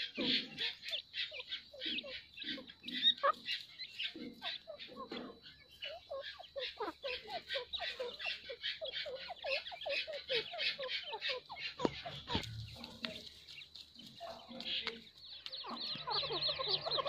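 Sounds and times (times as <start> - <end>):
francolins calling: 0.0 - 17.0.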